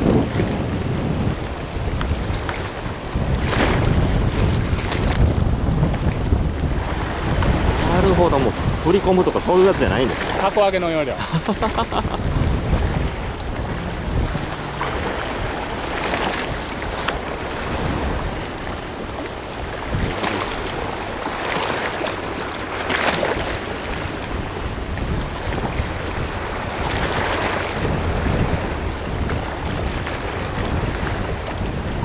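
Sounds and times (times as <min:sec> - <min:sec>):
waves washing against rocky shore: 0:00.0 - 0:32.0
wind rumbling on microphone: 0:00.0 - 0:32.0.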